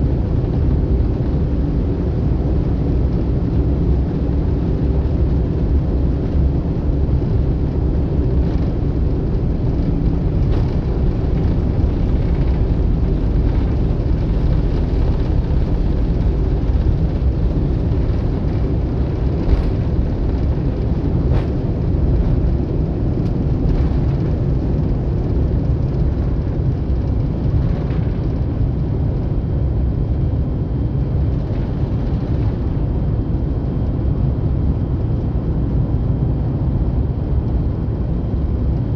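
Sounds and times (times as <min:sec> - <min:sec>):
jet cabin engine rumble: 0:00.0 - 0:38.9.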